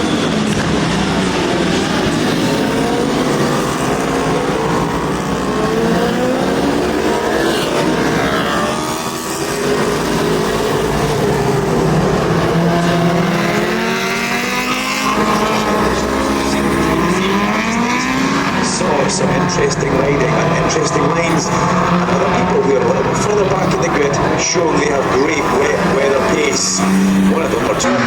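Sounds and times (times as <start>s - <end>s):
superbike engines racing: 0.0s - 28.0s.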